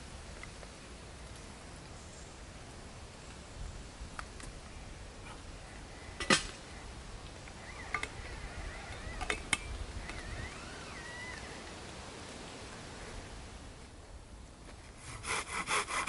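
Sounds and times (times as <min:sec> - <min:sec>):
steady soft hiss: 0:00.0 - 0:15.6.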